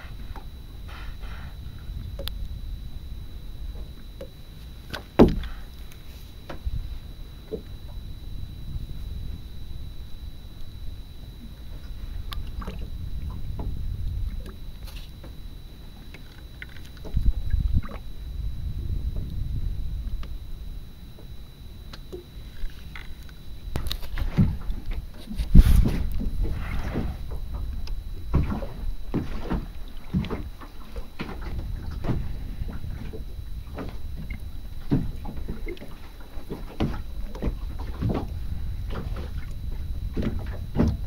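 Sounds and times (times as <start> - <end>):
low rumble: 0.0 - 36.3, 37.0 - 41.0
water lapping against boat hull: 0.0 - 41.0.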